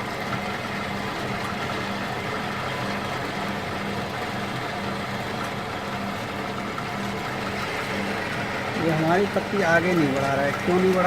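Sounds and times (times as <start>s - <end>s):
strapping machine motor running: 0.0s - 11.0s.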